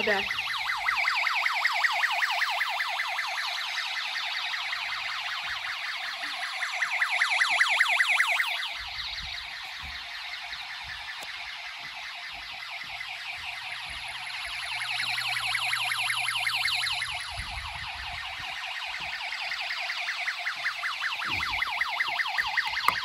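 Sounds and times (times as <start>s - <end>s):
warbling electronic siren tone: 0.0s - 23.0s.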